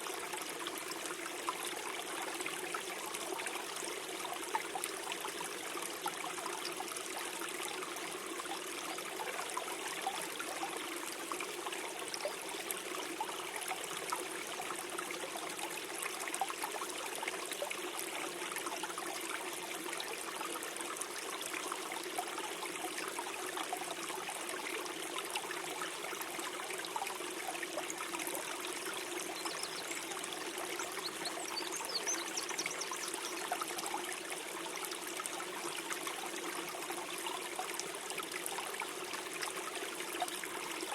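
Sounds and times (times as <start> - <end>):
stream gurgling: 0.0 - 40.9.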